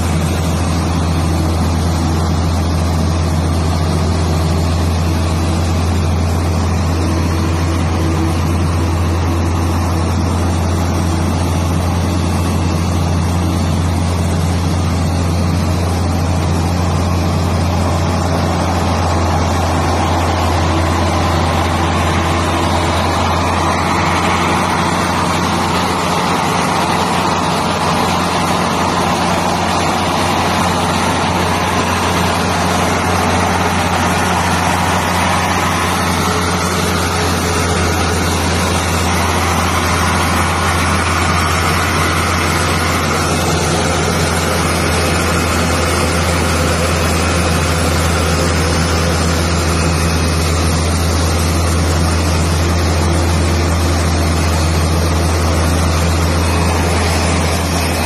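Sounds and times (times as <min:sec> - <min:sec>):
broad rushing noise: 0:00.0 - 0:58.0
tug engine drone: 0:00.0 - 0:58.0.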